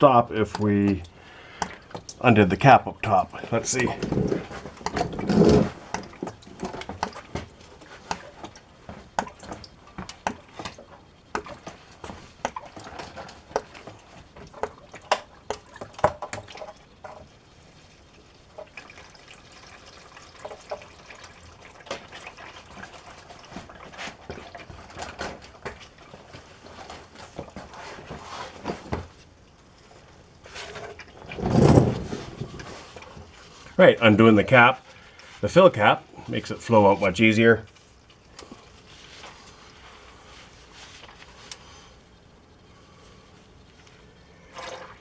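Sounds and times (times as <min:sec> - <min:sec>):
oil glugging into drain pan: 0:00.0 - 0:35.4, 0:44.1 - 0:45.0.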